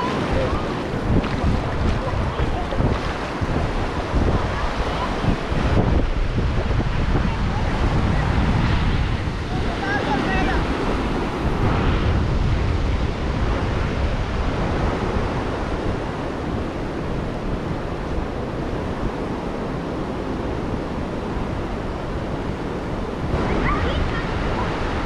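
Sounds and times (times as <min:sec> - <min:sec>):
ocean surf on beach: 0:00.0 - 0:25.0
wind rumbling on microphone: 0:00.0 - 0:25.0.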